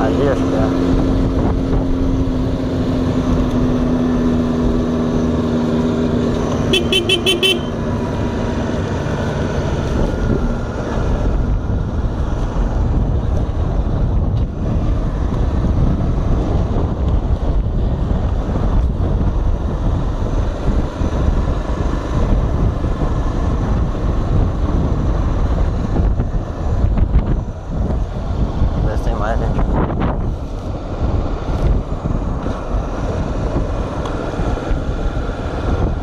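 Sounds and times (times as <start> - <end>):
motorcycle engine cruising: 0.0 - 36.0
wind buffeting microphone: 0.0 - 36.0.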